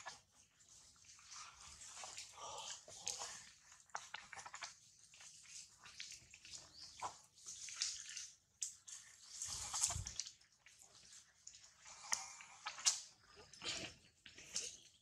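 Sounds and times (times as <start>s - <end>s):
wet clicking and smacking: 0.0s - 15.0s.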